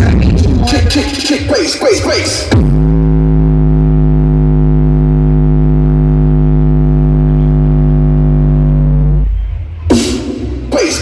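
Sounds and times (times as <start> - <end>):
distorted low bass tone: 0.0 - 11.0.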